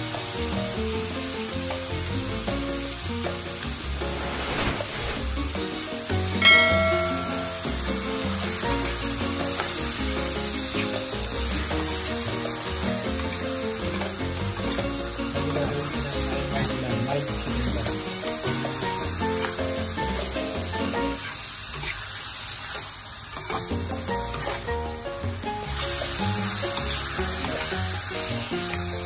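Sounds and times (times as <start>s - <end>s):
background music: 0.0s - 21.2s, 23.6s - 29.0s
chicken sizzling in hot oil: 0.0s - 29.0s.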